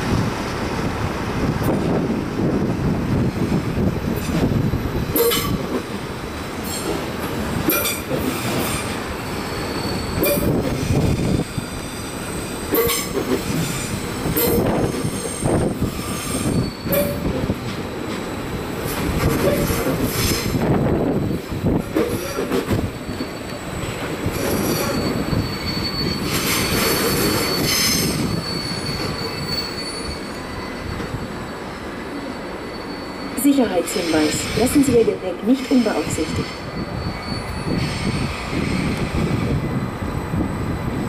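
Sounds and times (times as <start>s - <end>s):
train rumble: 0.0s - 41.0s
train wheels squealing: 5.1s - 5.7s, 7.7s - 18.4s, 19.4s - 41.0s.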